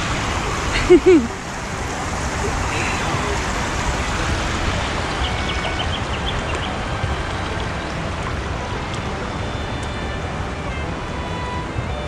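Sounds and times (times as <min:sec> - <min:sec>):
river water rushing over cascade: 0:00.0 - 0:12.0.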